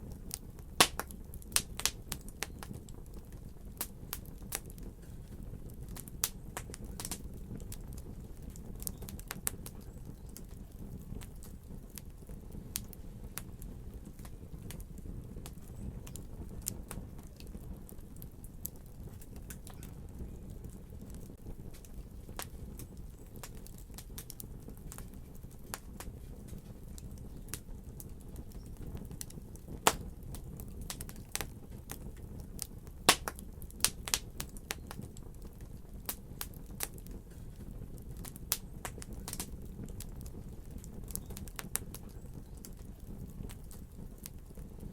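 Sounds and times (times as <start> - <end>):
fire popping and snapping: 0.0 - 44.9
wood fire crackling: 0.0 - 44.9.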